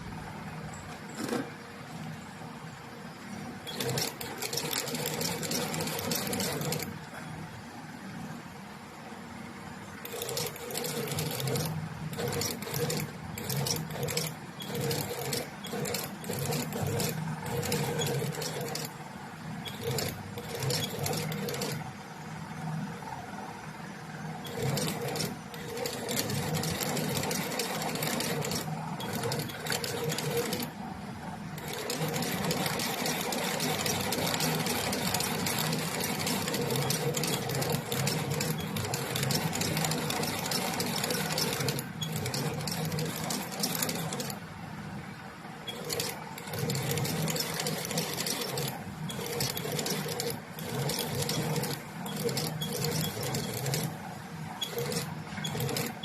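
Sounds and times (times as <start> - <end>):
sewing machine stitching: 1.0 - 1.6, 3.6 - 7.2, 10.0 - 21.9, 24.4 - 44.4, 45.7 - 56.0.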